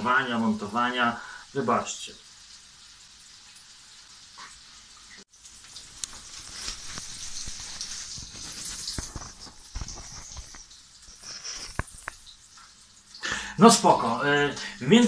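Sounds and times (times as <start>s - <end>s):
sausage sizzling in oil: 0.0s - 15.0s.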